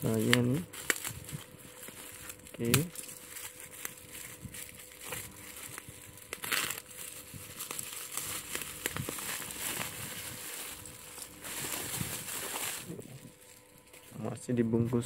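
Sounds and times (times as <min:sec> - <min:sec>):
packaging crinkling and rustling: 0:00.0 - 0:14.4.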